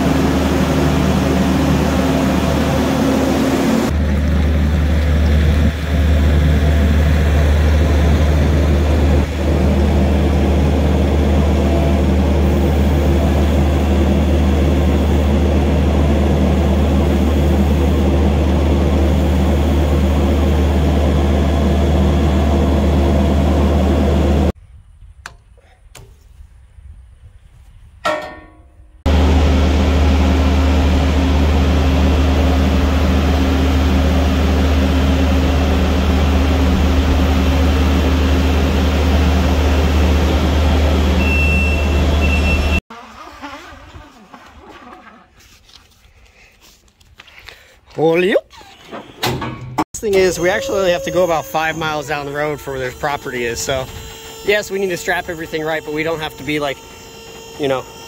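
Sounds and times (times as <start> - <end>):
diesel engine running: 0.0 - 24.6, 29.0 - 44.1, 50.0 - 58.0.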